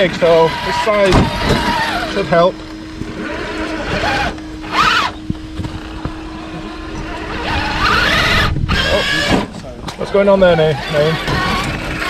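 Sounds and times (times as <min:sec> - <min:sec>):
electric drivetrain whining: 0:00.0 - 0:12.0.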